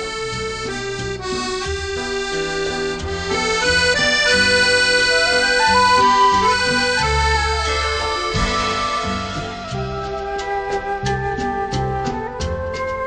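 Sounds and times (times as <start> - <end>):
sustained reedy chords: 0.0 - 11.2
moving bass line: 0.0 - 13.0.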